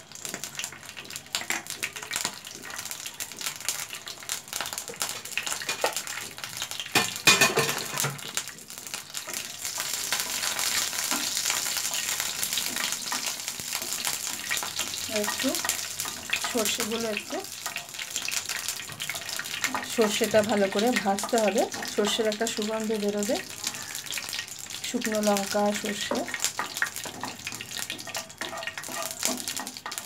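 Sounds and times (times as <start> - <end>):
seeds sizzling and crackling in oil: 0.0 - 30.0.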